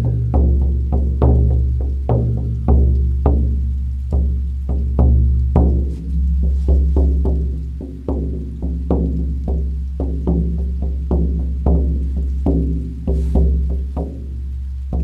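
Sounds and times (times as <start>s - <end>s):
frame drum beaten: 0.0s - 15.0s.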